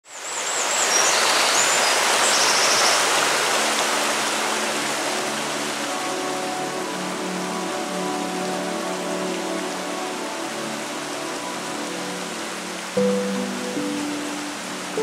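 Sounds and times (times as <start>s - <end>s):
river rapids rushing: 0.1s - 15.0s
soft sustained music tones: 0.2s - 15.0s.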